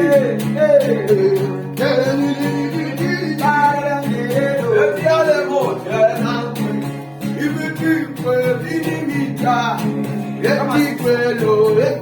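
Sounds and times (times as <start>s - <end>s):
gospel song with guitar: 0.0s - 12.0s.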